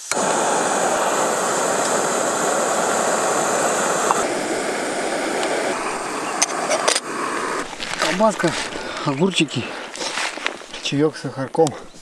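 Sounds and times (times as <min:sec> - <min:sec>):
gas stove burner hissing: 0:00.0 - 0:12.0.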